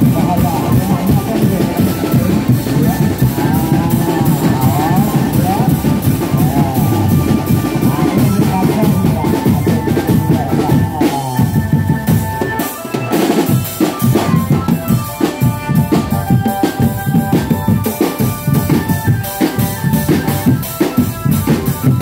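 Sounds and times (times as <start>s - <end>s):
drum-heavy music: 0.0s - 22.0s.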